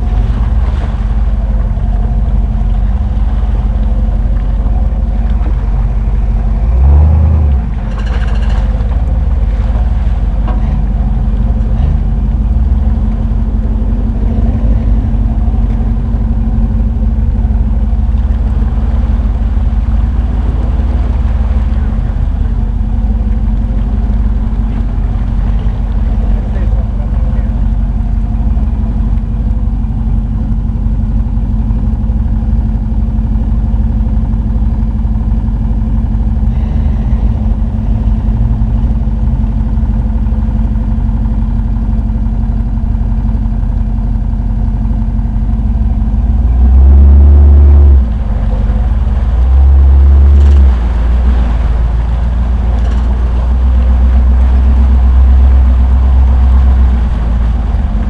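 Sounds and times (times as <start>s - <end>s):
loud low rumbles: 0.0s - 58.0s
off-road vehicle engine running: 0.0s - 58.0s.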